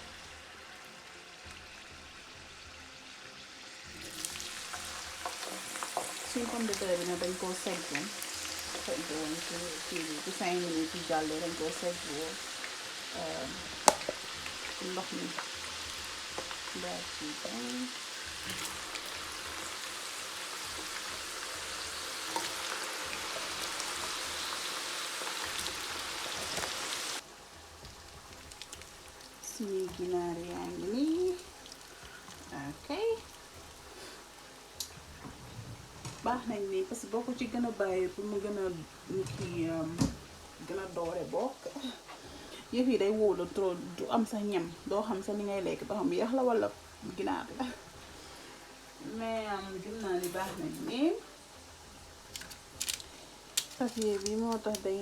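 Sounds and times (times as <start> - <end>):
potatoes frying in oil: 0.0 - 55.0.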